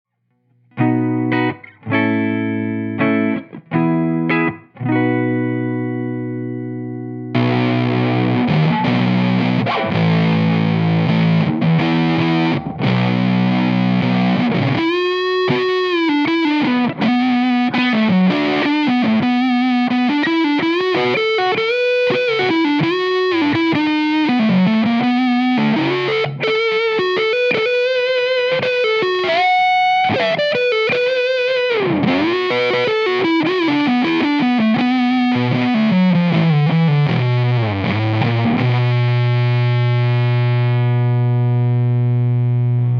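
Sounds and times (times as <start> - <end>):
fuzzy distorted electric guitar: 0.5 - 42.9.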